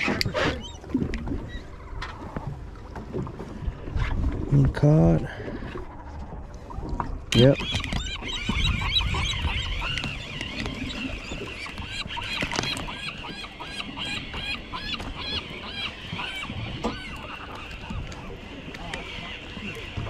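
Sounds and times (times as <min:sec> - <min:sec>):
seabirds calling: 0:00.0 - 0:04.2, 0:05.2 - 0:20.0
boat noise: 0:00.0 - 0:20.0.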